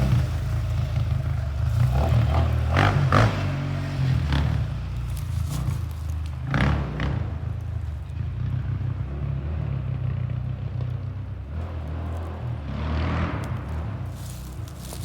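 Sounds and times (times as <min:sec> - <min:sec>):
atv engine idling: 0:00.0 - 0:12.6, 0:13.3 - 0:15.0.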